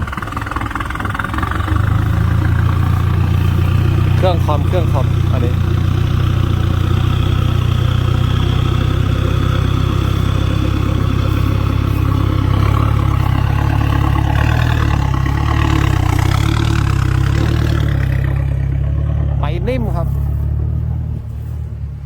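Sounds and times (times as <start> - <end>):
diesel truck engine pulling away: 0.0 - 22.0.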